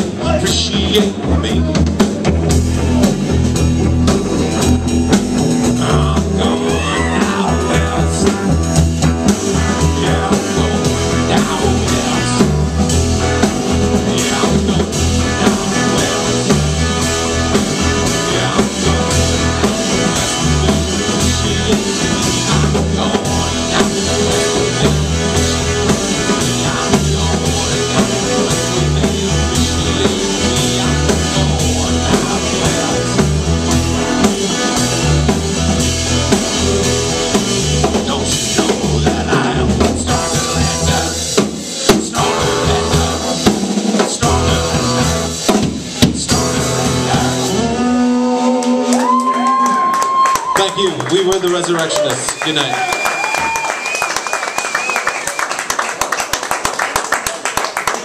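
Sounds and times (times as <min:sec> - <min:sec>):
drum kit beat: 0:00.0 - 0:47.9
upright bass: 0:00.0 - 0:49.8.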